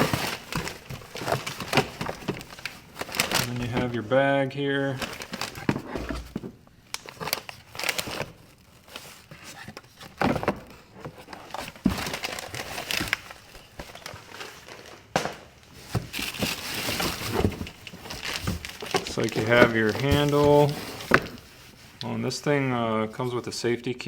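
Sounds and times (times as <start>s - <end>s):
packaging crinkling: 0.0s - 4.1s, 4.8s - 22.2s.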